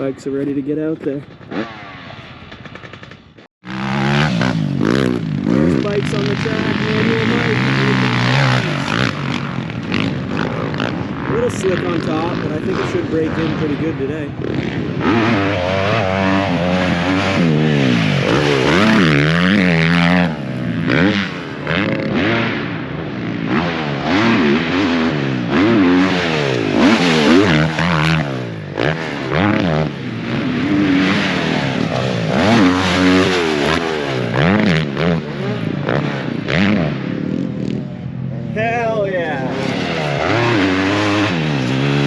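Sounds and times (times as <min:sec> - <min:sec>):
dirt bikes revving: 0:00.0 - 0:42.0.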